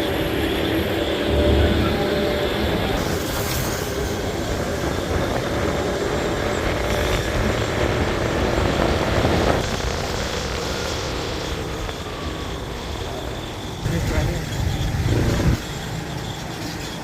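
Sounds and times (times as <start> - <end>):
motorbike engine: 0.0 - 17.0
wind and road noise: 0.0 - 17.0.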